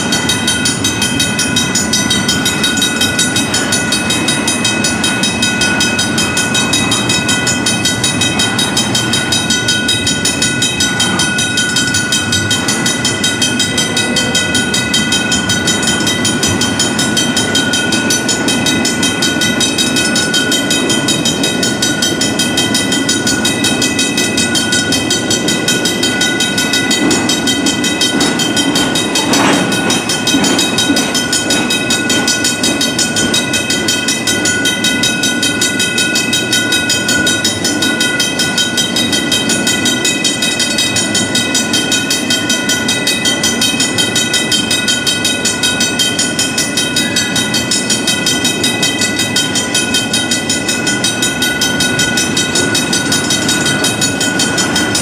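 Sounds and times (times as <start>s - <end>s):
railroad crossing bells ringing: 0.0s - 55.0s
train wheels clicking over rails: 0.0s - 55.0s.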